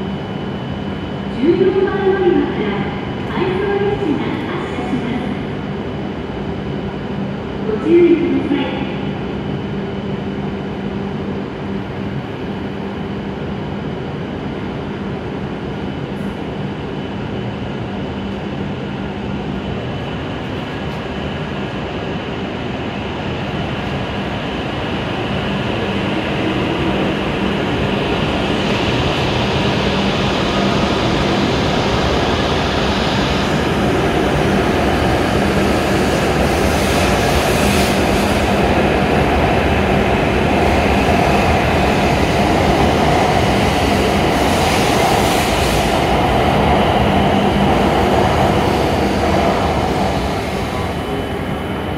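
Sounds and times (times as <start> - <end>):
high-speed train humming: 0.0 - 51.9.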